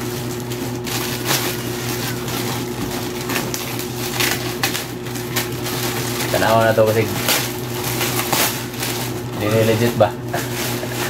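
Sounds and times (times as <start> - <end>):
plastic wrapping crinkling: 0.0 - 11.0
scissors cutting plastic: 0.1 - 11.0.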